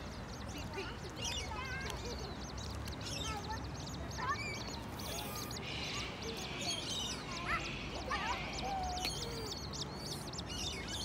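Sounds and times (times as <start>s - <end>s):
wavering bird calls: 0.0s - 11.0s
high thin bird peeps: 0.1s - 11.0s.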